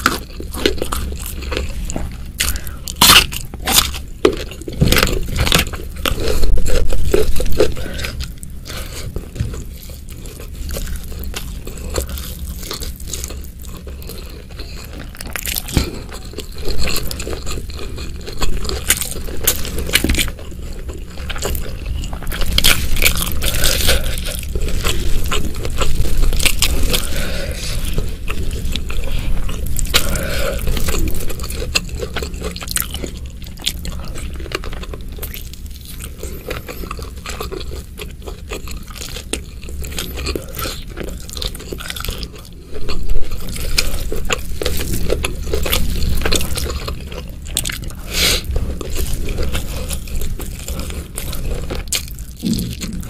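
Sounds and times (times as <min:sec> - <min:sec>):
wet chewing crunches: 0:00.0 - 0:53.0.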